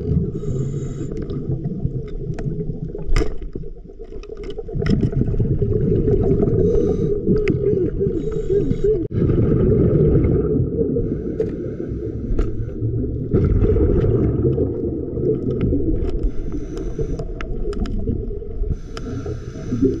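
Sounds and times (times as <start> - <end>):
muffled rushing water: 0.0 - 20.0.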